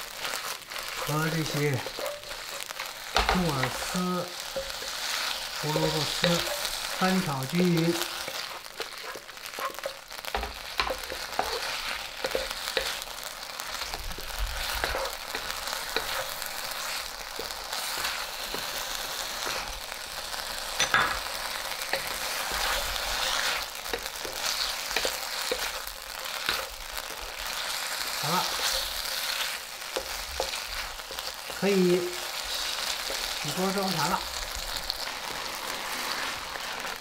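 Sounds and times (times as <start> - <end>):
food sizzling in oil: 0.0 - 37.0
wooden spatula scraping a wok: 0.0 - 37.0.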